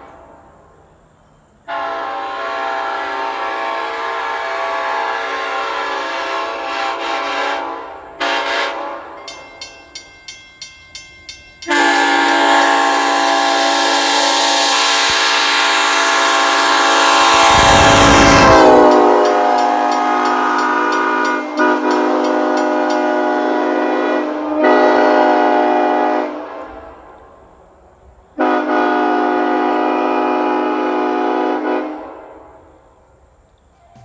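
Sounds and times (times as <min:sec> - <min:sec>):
low train rumble: 0:00.0 - 0:34.0
locomotive air horn blasts: 0:01.7 - 0:09.5, 0:11.6 - 0:27.4, 0:28.4 - 0:32.9.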